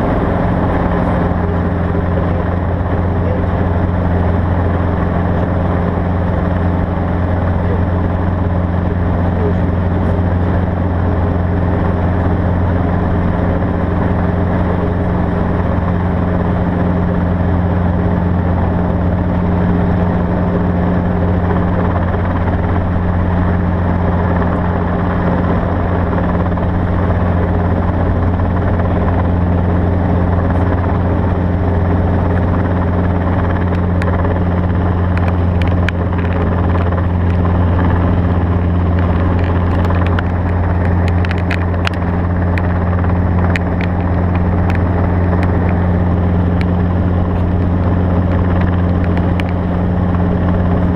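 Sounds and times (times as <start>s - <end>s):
steady engine drone: 0.0s - 50.9s.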